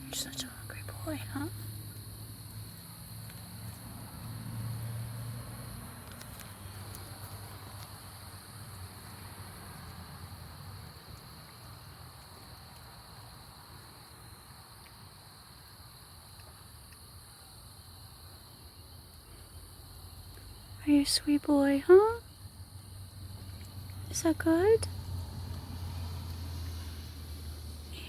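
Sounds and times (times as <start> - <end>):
night crickets chorus: 0.0 - 28.0.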